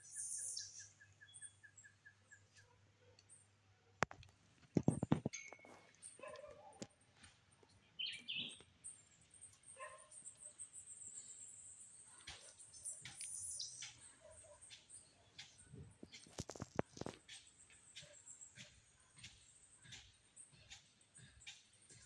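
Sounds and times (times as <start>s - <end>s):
faint bird chirps: 0.0s - 3.5s, 7.8s - 22.0s.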